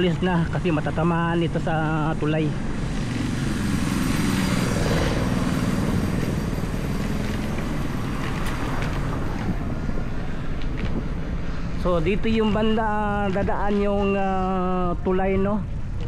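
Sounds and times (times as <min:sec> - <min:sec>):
vehicle engine running: 0:00.0 - 0:13.6
steady rumbling noise: 0:00.0 - 0:16.0.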